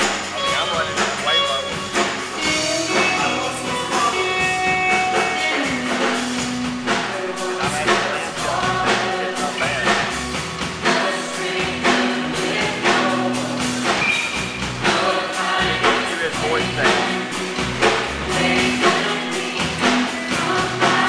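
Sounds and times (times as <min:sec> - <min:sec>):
voices singing: 0:00.0 - 0:21.0
worship band playing: 0:00.0 - 0:21.0.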